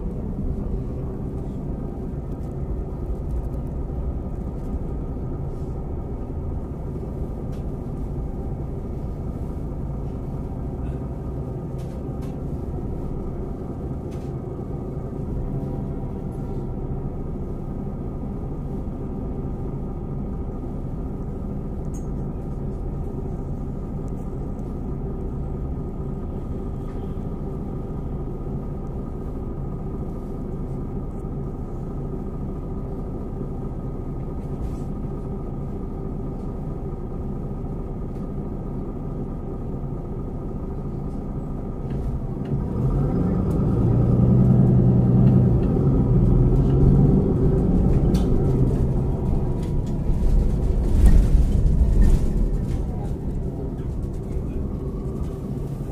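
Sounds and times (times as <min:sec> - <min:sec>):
bus engine rumbling: 0:00.0 - 0:55.9.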